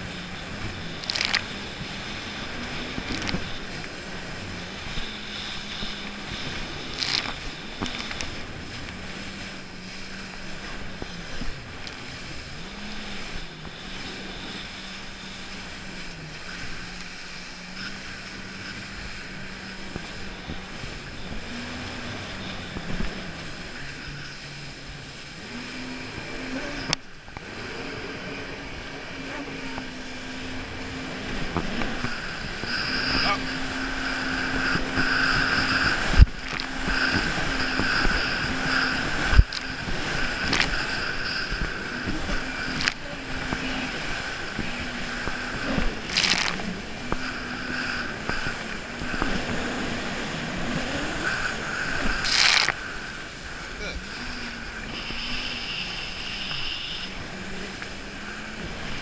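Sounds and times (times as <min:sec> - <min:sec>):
jet ski engine running: 0:00.0 - 0:59.0
rushing water: 0:00.0 - 0:59.0.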